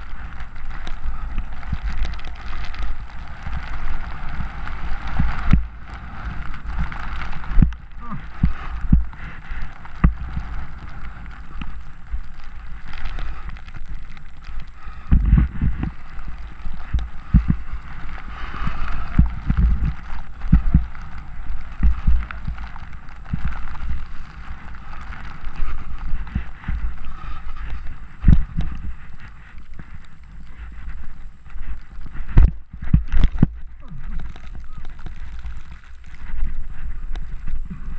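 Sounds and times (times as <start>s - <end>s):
snowboard scraping on snow: 0.0s - 14.1s, 14.8s - 32.9s
wind buffeting microphone: 0.0s - 37.9s.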